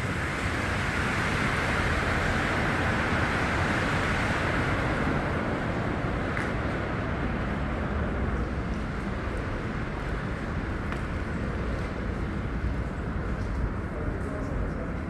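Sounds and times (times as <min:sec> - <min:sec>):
low rumble of city noise: 0:00.0 - 0:15.0.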